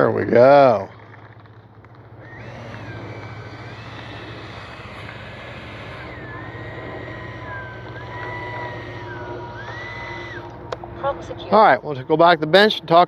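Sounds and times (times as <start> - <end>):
electric ducted fan whining: 1.3 - 13.0.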